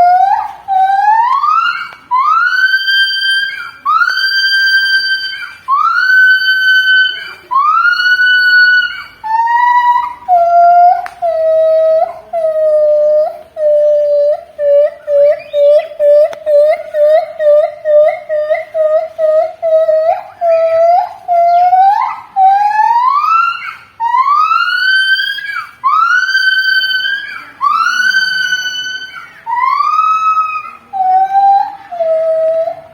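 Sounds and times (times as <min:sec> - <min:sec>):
gibbon whooping call: 0:00.0 - 0:32.9.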